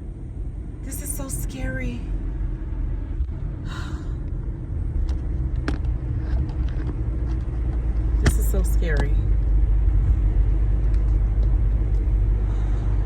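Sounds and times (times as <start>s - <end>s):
car cabin rumble on snowy road: 0.0s - 13.0s.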